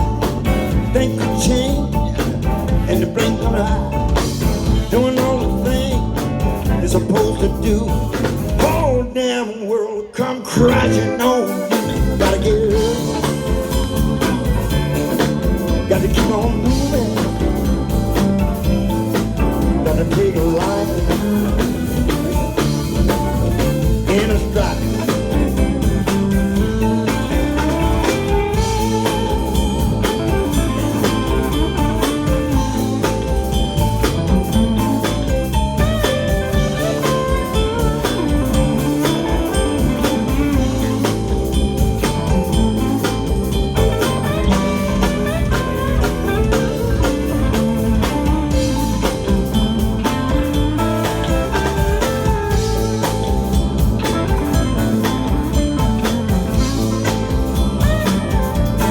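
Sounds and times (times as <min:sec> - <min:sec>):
electric guitar: 0:00.0 - 0:09.2, 0:10.2 - 0:58.9
live blues band playing: 0:00.0 - 0:58.9.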